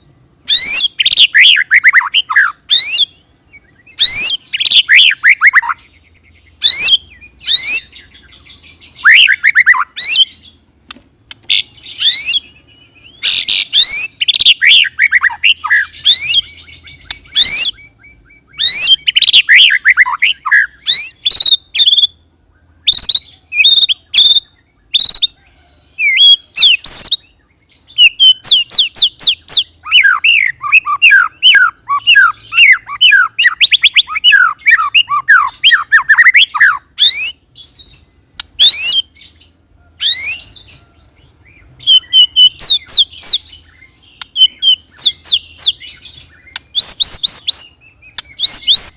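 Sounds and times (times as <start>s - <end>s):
bird singing whistled notes: 0.0s - 10.6s, 11.2s - 48.9s.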